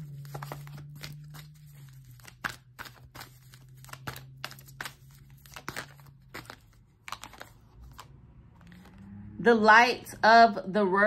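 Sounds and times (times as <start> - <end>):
cards being shuffled: 0.0 - 9.1.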